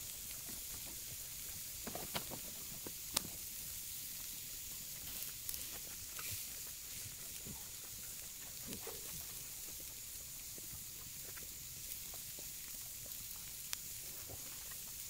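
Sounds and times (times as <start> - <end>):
burger patties sizzling on grill: 0.0 - 15.0.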